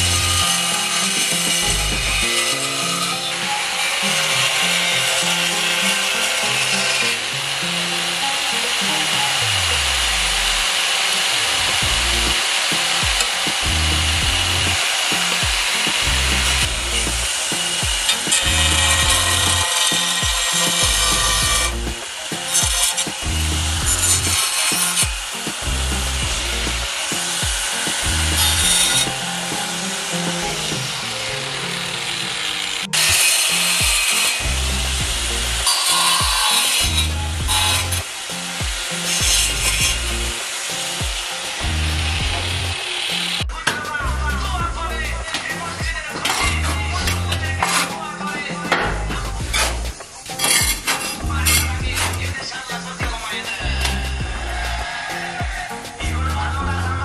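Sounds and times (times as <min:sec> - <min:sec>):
angle grinder cutting tile: 0:00.0 - 0:57.0
background music with beat: 0:00.0 - 0:57.0.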